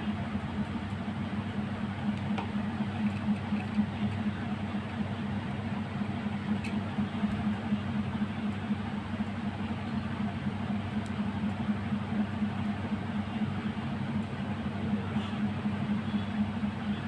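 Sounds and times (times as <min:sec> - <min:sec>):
machine humming and whirring: 0:00.0 - 0:17.0.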